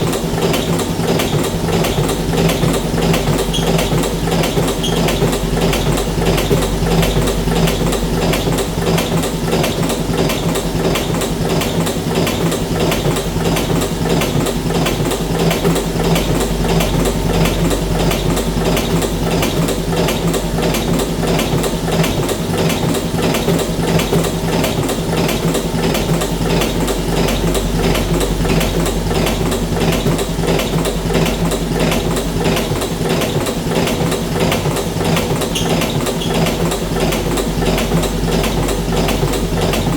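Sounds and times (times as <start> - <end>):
machine motor hum: 0.0 - 39.9
rapid mechanical clatter: 0.0 - 39.9.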